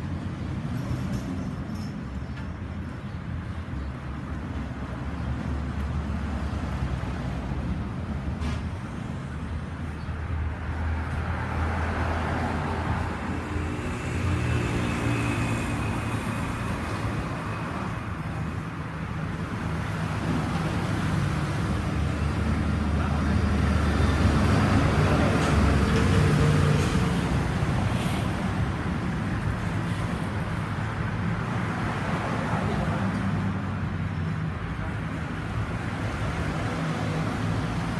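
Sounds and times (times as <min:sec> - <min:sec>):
road traffic noise: 0:00.0 - 0:37.9.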